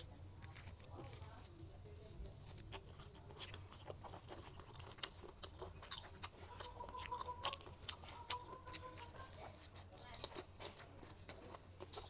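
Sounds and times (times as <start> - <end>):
mouth chewing clicks and smacks: 2.3 - 12.0.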